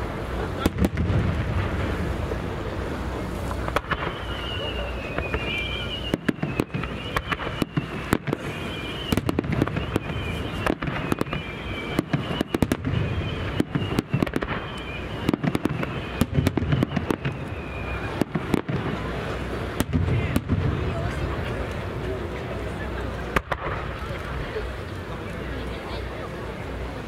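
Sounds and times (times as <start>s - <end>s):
firework bangs: 0.0s - 24.8s
continuous rumble: 0.0s - 27.0s.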